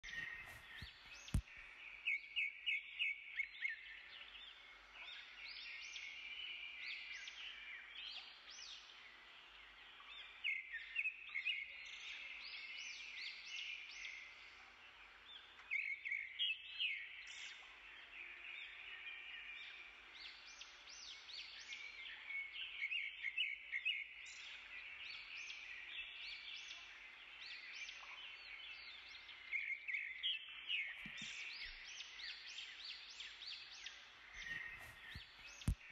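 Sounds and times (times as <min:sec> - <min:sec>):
faint birds chirping: 0:00.0 - 0:11.0, 0:13.3 - 0:35.9.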